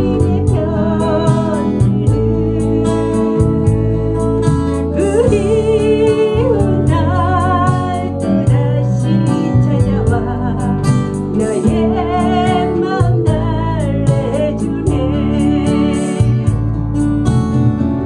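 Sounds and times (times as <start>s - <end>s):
woman singing a slow ballad: 0.0s - 16.7s
strummed acoustic guitar: 0.0s - 18.0s.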